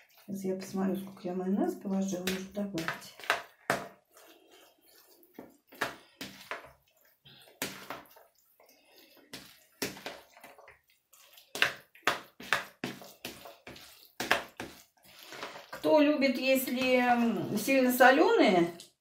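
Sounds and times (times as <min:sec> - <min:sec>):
wet squelches of salad mixing: 0:00.0 - 0:19.0.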